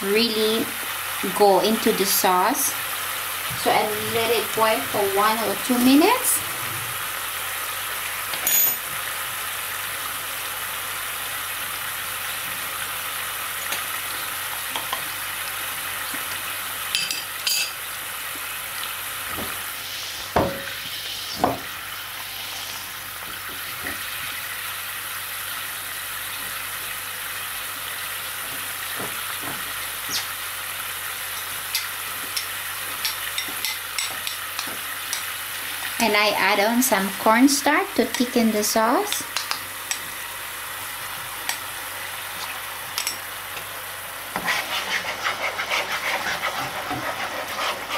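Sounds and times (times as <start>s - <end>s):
sauce boiling with bubbling hiss: 0.0s - 47.9s.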